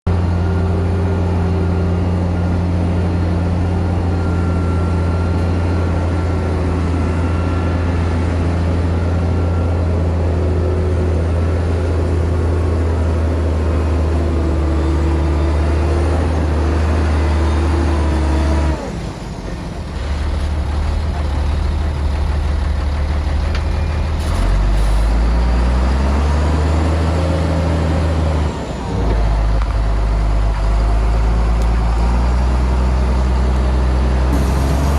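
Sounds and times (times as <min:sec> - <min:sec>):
heavy diesel engines running: 0:00.1 - 0:34.9.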